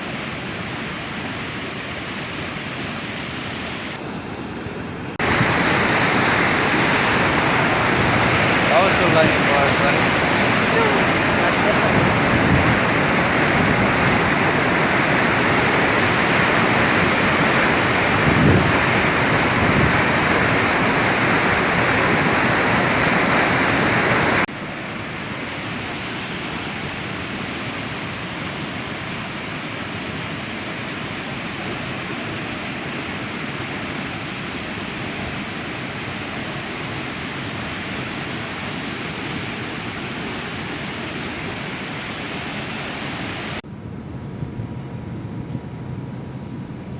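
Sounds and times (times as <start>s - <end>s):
rushing water: 0.0s - 43.6s.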